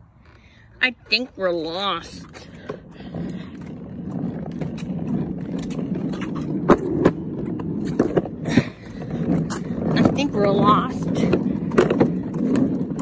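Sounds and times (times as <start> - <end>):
toy wheels rumbling on concrete: 0.0 - 13.0.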